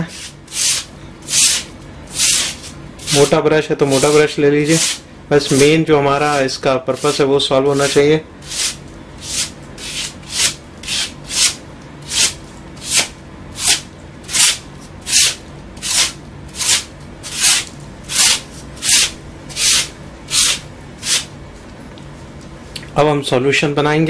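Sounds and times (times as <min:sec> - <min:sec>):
brush scratching plaster wall: 0:00.0 - 0:21.3.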